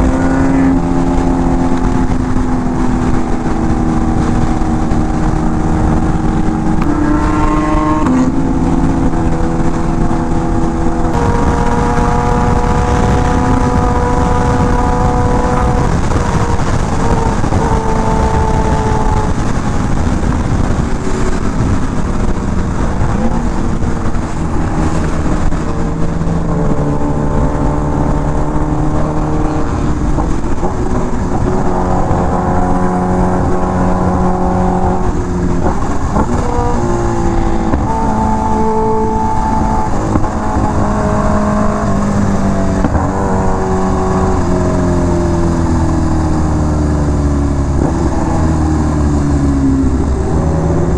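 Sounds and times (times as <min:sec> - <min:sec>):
motorcycle engine revving: 0:00.0 - 0:50.9
wind rushing: 0:00.0 - 0:50.9.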